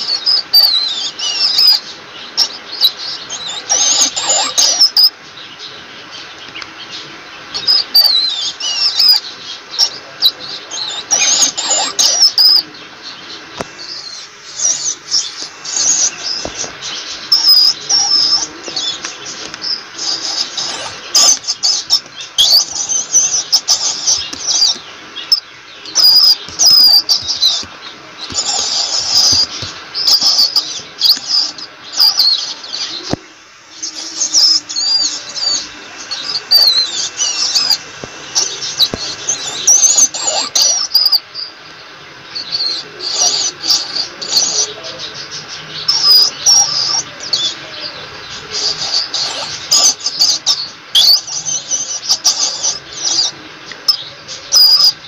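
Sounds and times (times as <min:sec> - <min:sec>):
rats squeaking: 0:00.0 - 0:05.8, 0:06.4 - 0:41.6, 0:42.3 - 0:55.0.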